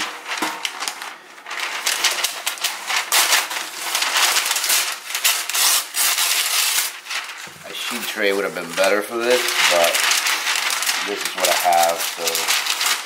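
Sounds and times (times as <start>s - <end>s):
paper tearing: 0.0s - 13.0s
parchment paper rustling: 0.0s - 13.0s.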